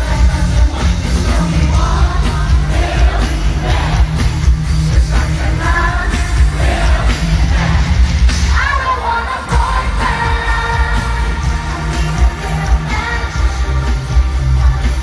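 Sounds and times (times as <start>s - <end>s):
pounding electronic bass beat: 0.0s - 8.5s, 9.5s - 15.0s
woman singing pop song: 0.0s - 15.0s.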